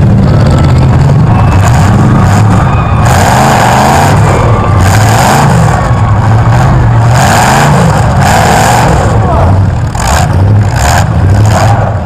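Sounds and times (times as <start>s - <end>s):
car engine revving: 0.0s - 12.0s
noisy rumble: 0.0s - 12.0s.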